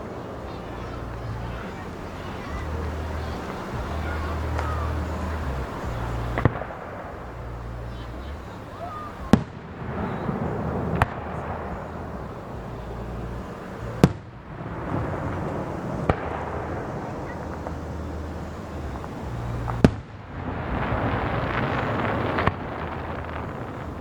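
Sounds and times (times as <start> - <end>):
continuous noisy wash: 0.0 - 24.0
firework shell bursts: 0.0 - 24.0.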